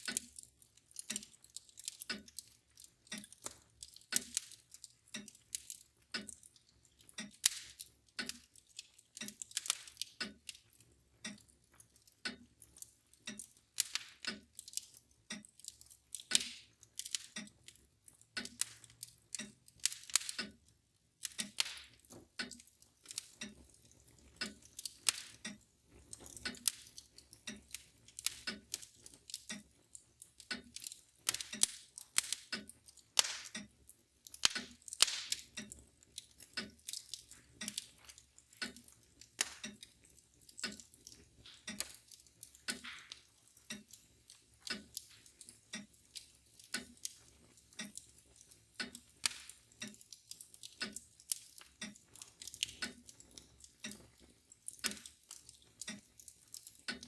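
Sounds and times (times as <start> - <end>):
fire crackling in a fireplace: 0.0 - 57.0
mantel clock ticking: 0.0 - 57.0.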